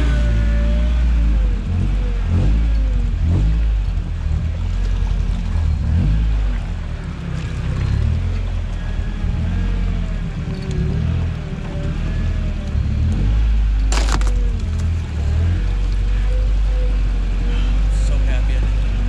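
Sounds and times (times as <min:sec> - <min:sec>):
truck engine at low revs: 0:00.0 - 0:19.0.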